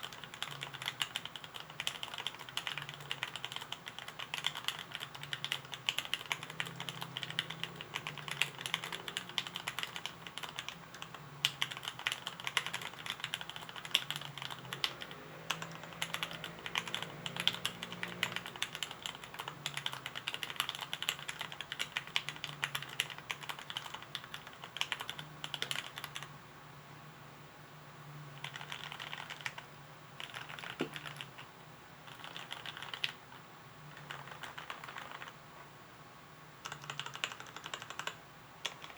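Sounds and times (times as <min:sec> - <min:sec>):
typing on mechanical keyboard: 0:00.0 - 0:26.3, 0:28.4 - 0:29.6, 0:30.2 - 0:31.5, 0:32.1 - 0:33.3, 0:33.9 - 0:35.4, 0:36.6 - 0:38.9.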